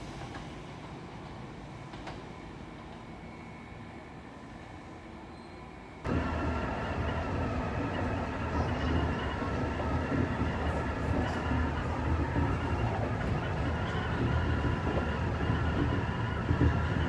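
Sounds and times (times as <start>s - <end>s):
electric train rumbling on rails: 0.0s - 17.0s.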